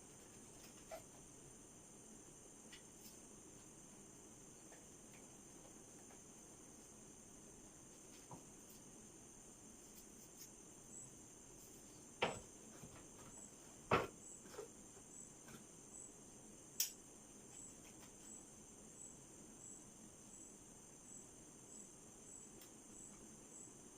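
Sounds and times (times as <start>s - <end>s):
crickets chirping: 0.0s - 23.9s.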